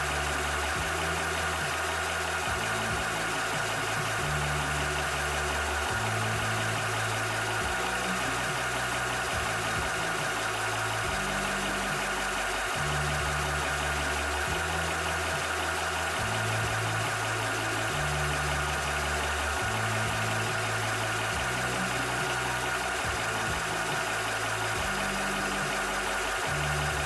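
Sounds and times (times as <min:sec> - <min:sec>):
air compressor running: 0:00.0 - 0:27.0.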